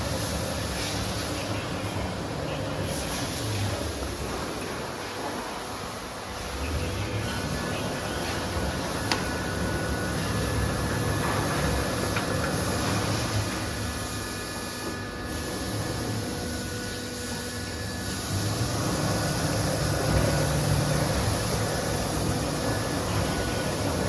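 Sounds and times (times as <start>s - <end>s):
cnc router running: 0.0s - 24.0s
faint whining tones: 0.2s - 24.0s.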